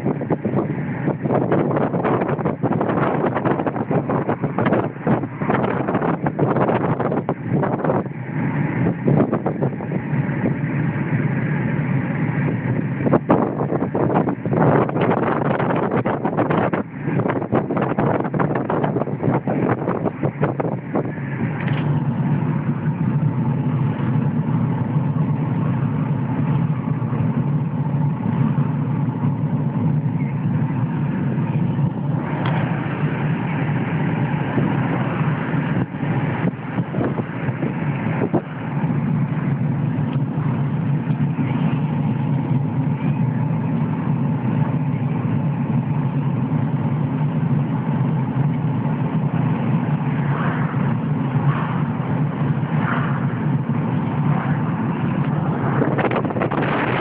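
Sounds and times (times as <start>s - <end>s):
car engine and tyre noise: 0.0s - 57.0s.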